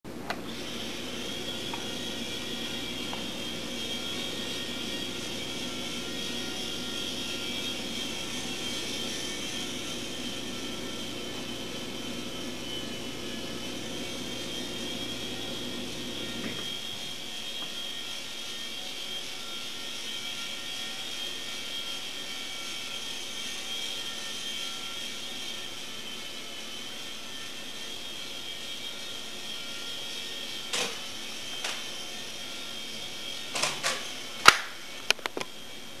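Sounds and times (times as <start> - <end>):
toy helicopter motor whine: 0.4 - 36.0.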